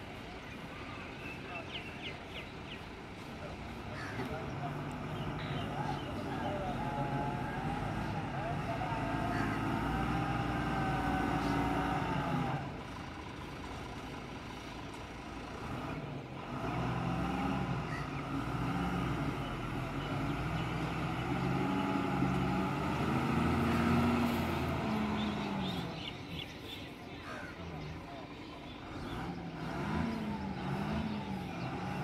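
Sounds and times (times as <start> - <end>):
truck diesel engine revving: 0.6 - 26.8, 28.6 - 32.0.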